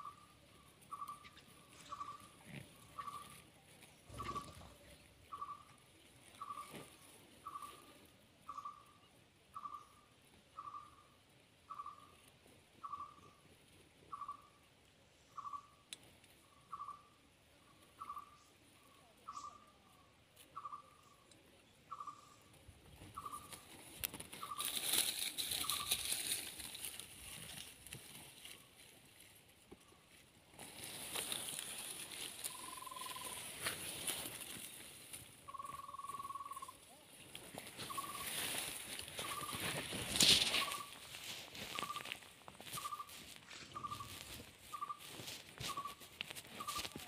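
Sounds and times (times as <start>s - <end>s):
rustling of dry grass: 0.0s - 15.4s, 16.0s - 47.0s.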